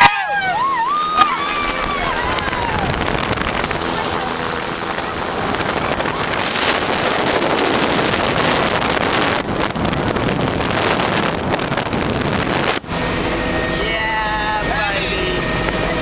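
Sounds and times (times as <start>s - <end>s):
helicopter engine and rotor: 0.0s - 16.0s
wind on microphone: 0.0s - 16.0s.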